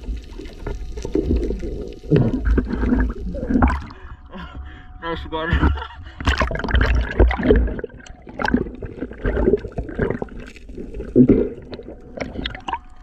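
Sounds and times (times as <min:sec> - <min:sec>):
water gurgling underwater: 0:00.0 - 0:04.2, 0:05.7 - 0:13.0.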